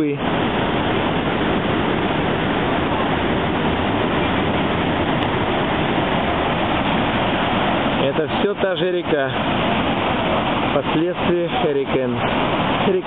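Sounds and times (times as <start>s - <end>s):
river rushing through rapids: 0.0s - 13.0s.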